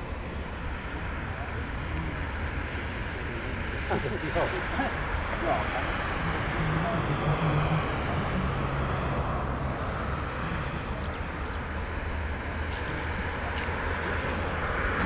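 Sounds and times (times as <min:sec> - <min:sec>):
low machinery rumble: 0:00.0 - 0:15.0.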